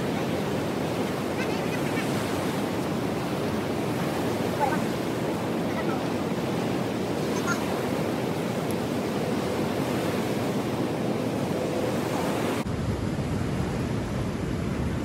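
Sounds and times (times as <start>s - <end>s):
waves washing on shore: 0.0s - 15.0s
wind rumble on microphone: 0.0s - 15.0s.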